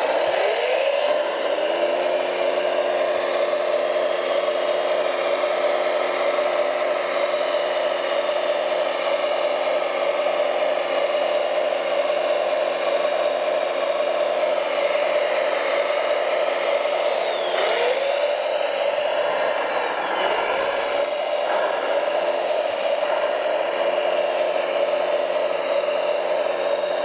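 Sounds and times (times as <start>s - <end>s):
toy machine motor hum: 0.0s - 27.0s.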